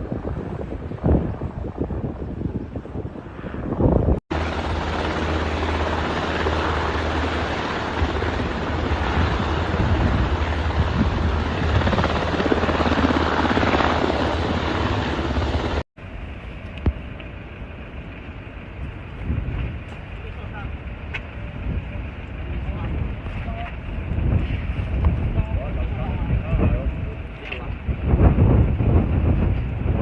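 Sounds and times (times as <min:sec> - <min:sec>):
helicopter rotor and engine: 0:00.1 - 0:30.0.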